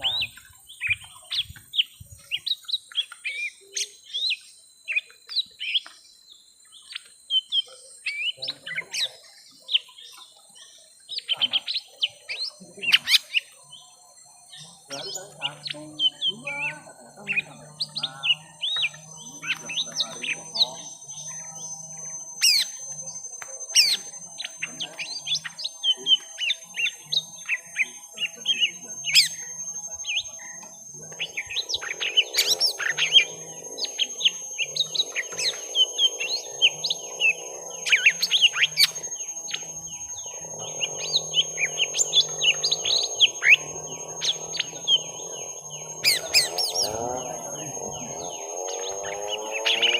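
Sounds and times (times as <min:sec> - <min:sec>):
birds chirping and twittering: 0:00.0 - 0:49.9.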